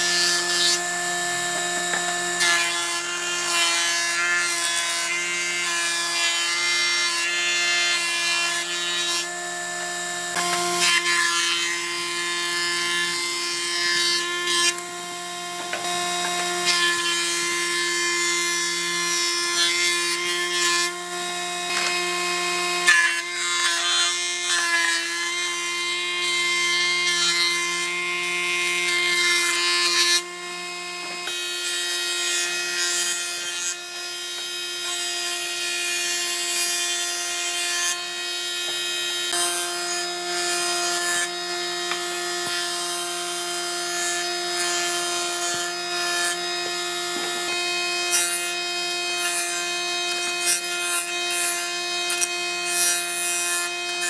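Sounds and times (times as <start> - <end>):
power tool abrading wood: 0.0 - 54.0.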